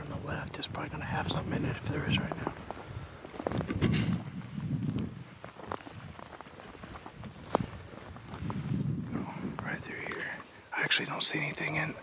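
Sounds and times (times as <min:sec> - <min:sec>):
footsteps crunching: 0:00.0 - 0:10.6.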